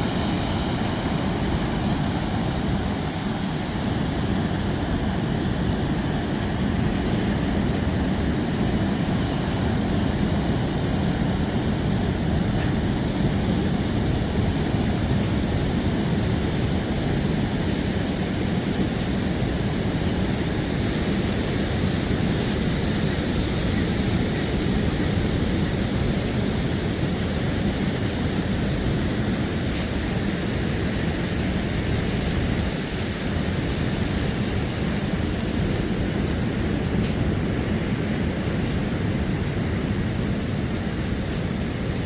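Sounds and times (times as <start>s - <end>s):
ocean surf: 0.0s - 42.0s
wind: 0.0s - 42.0s.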